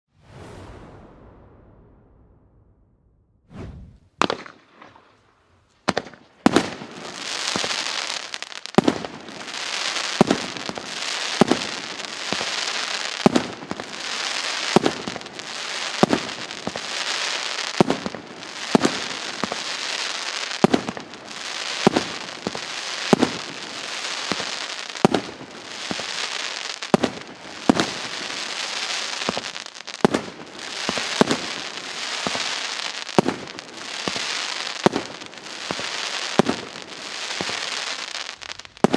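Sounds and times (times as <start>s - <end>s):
fireworks shots firing: 3.6s - 5.2s, 5.8s - 38.9s.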